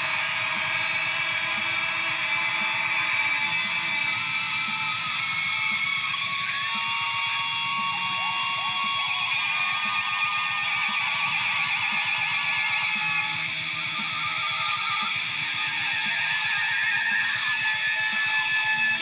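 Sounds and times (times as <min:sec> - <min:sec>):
electric guitar with warbling effect: 0:00.0 - 0:19.0
low fast pulsing: 0:00.0 - 0:19.0.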